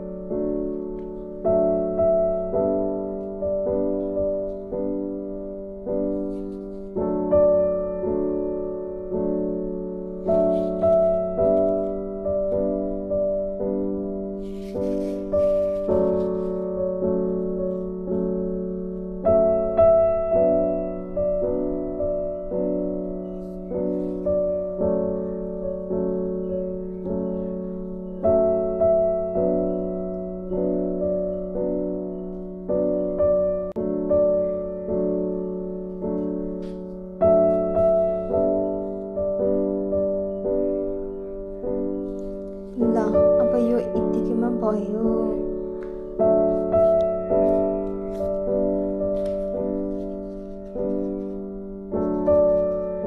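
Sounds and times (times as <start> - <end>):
slow piano music: 0.0 - 53.0.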